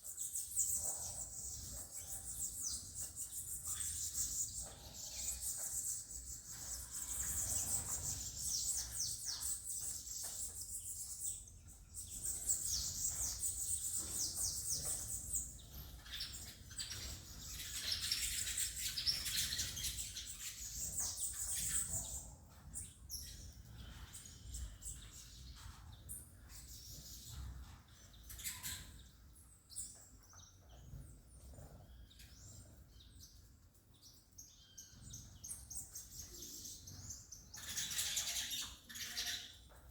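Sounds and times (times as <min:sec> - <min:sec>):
finch chirping: 0:00.0 - 0:39.9.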